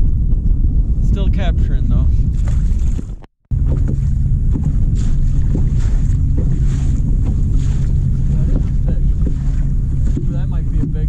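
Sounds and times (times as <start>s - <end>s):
boat engine low rumble: 0.0s - 11.0s
wind buffeting microphone: 0.0s - 11.0s.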